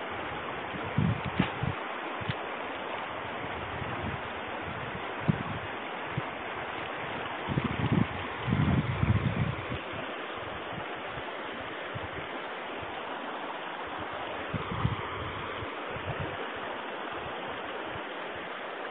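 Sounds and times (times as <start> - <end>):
stream rushing over rocks: 0.0 - 18.9.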